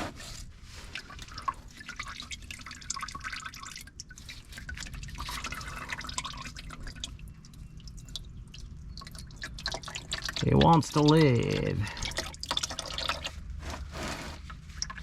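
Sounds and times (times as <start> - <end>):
oil dripping: 0.2 - 15.0.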